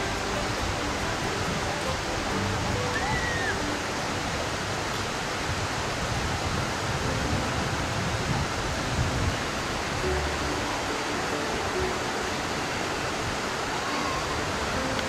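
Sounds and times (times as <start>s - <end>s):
waterfall rushing over rocks: 0.0s - 15.0s.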